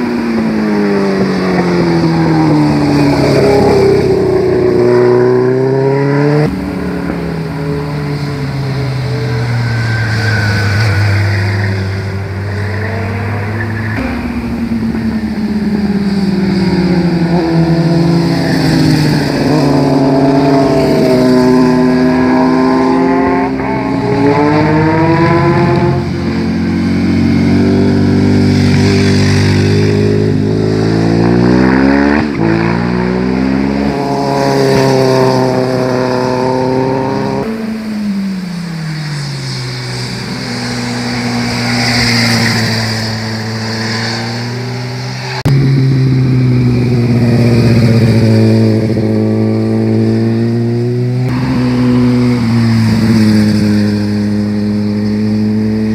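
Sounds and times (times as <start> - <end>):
motorcycle engines revving: 0.0 - 55.9
motorcycle passing close: 0.0 - 55.9.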